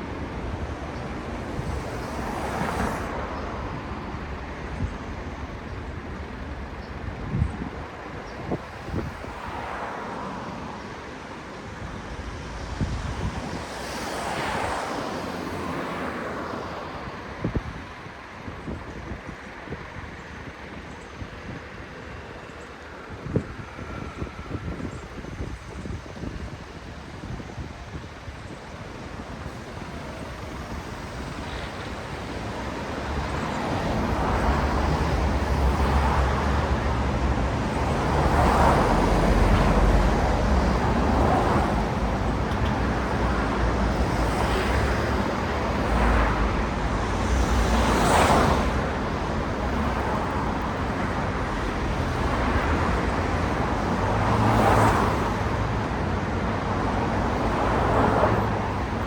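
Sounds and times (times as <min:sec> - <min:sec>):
cars passing: 0:00.0 - 0:05.5, 0:08.4 - 0:19.8, 0:23.2 - 0:59.0
traffic rumble: 0:00.0 - 0:59.0.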